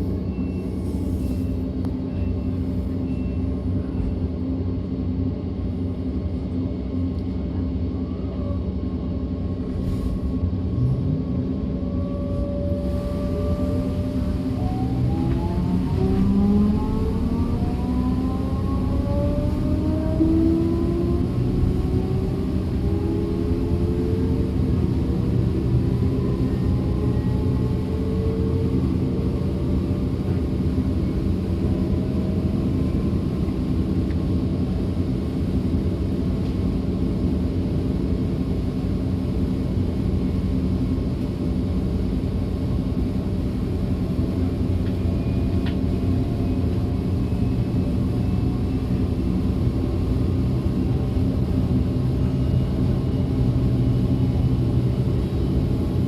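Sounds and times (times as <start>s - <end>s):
train rolling rumble: 0.0s - 56.0s.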